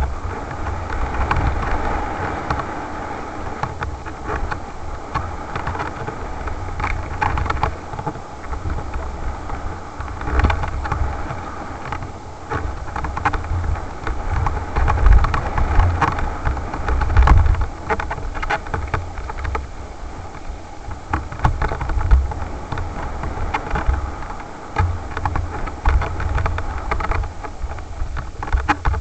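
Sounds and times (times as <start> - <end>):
wind rumble on microphone: 0.0 - 29.0
mountain bike clattering on stony trail: 3.6 - 29.0.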